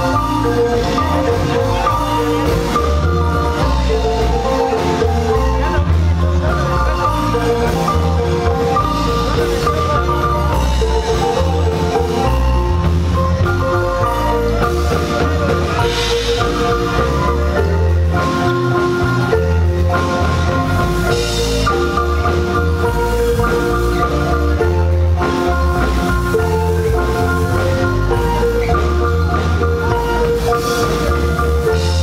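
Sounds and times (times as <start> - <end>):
marimba band music: 0.0 - 32.0.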